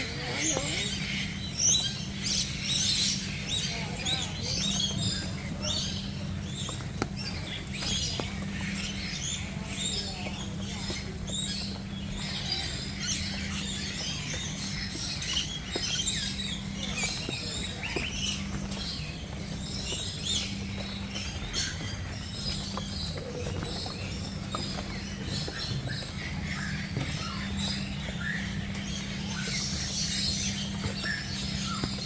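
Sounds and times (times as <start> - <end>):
small birds chirping: 0.0 - 32.0
steady low hum: 0.0 - 32.0.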